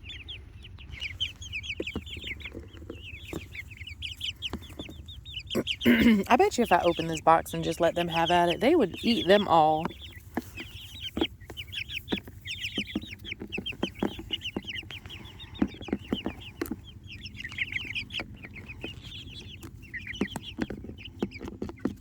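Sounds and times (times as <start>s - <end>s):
chicks cheeping and clucking: 0.0s - 22.0s.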